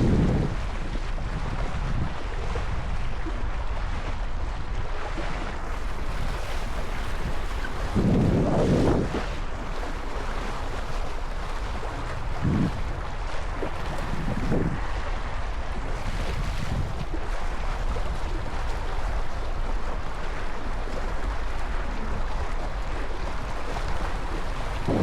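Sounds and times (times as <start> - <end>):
waves washing: 0.0 - 25.0
wind buffeting microphone: 0.0 - 25.0.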